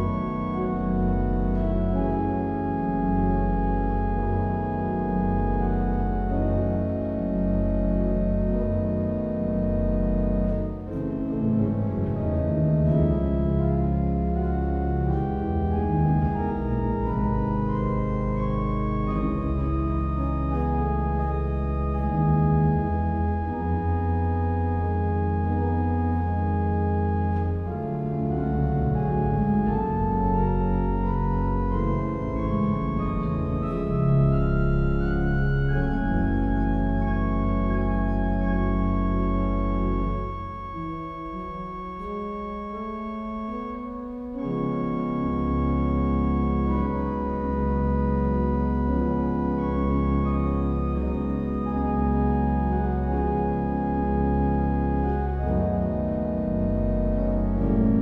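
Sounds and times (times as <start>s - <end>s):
background music with chords: 0.0s - 58.0s.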